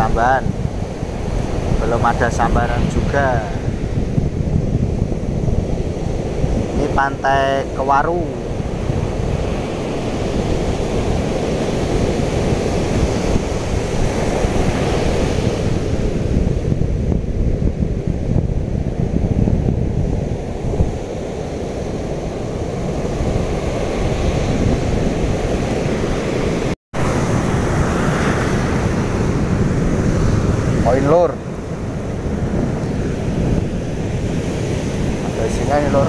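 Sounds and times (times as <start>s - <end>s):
surf breaking on shore: 0.0s - 36.0s
wind on microphone: 0.0s - 36.0s.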